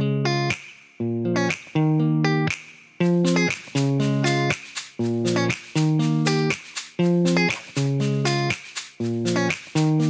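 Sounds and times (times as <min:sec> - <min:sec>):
plucked string instrumental music: 0:00.0 - 0:10.0.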